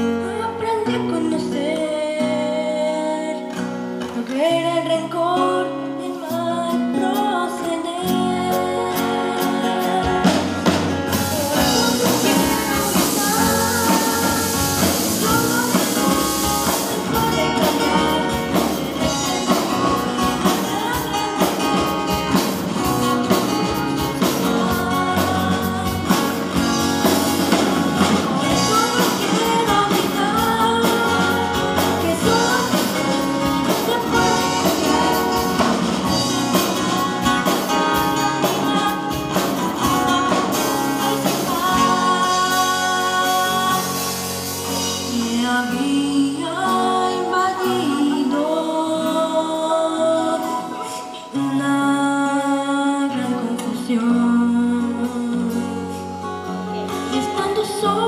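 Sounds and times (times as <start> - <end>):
bass guitar: 0.0 - 49.4
drums: 0.0 - 58.0
guitar: 0.0 - 58.0
person singing: 0.0 - 58.0.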